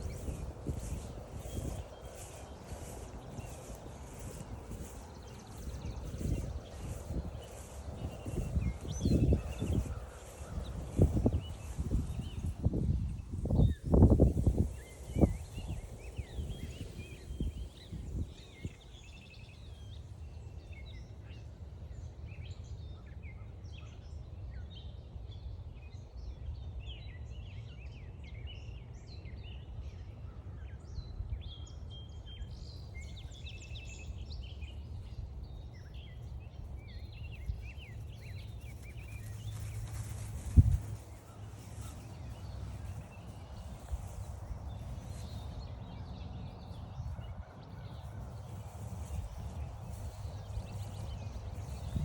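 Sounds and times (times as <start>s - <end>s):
songbirds singing and calling: 0.0s - 52.0s.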